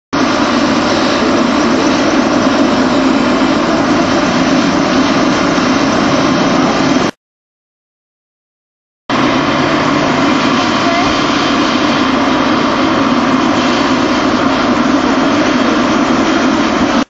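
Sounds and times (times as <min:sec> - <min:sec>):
helicopter engine and rotor: 0:00.1 - 0:07.2, 0:09.1 - 0:17.0.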